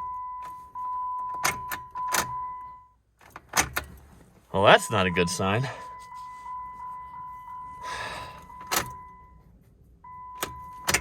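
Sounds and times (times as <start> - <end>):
dashboard warning chime: 0.0 - 3.0, 4.6 - 11.0.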